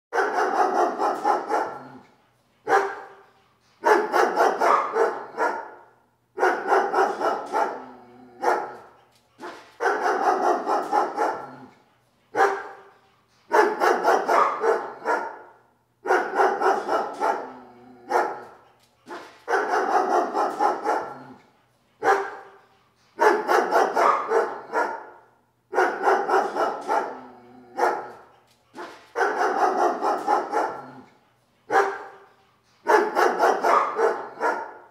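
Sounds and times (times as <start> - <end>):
dog barking: 0.1 - 2.0, 2.6 - 11.7, 12.3 - 21.4, 22.0 - 22.6, 23.2 - 31.1, 31.7 - 34.9.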